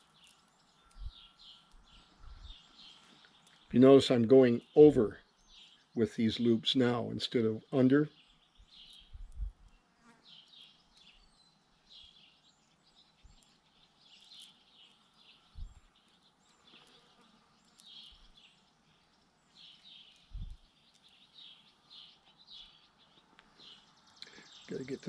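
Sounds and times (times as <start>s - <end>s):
faint bird chirping: 0.0s - 25.0s.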